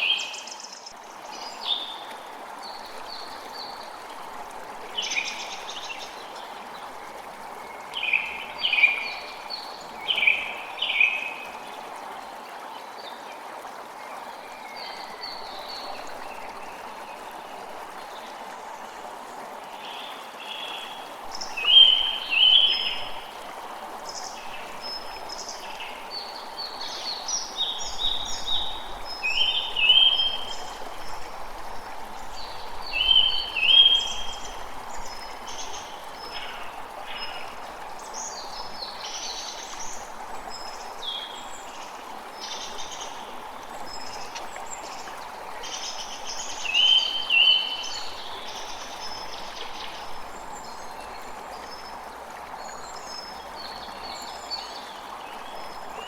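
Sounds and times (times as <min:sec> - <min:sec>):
creek running: 0:00.0 - 0:56.0.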